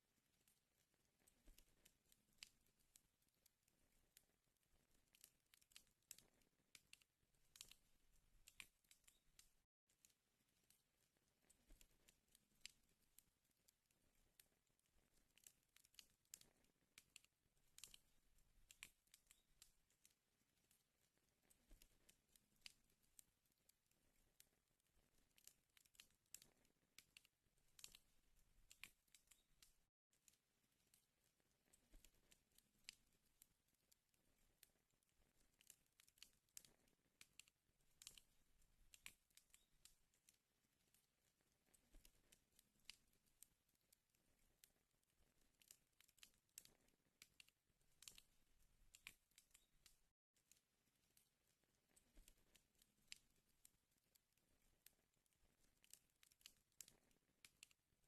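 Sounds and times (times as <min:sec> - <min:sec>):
wood fire crackling: 0:00.2 - 0:57.8.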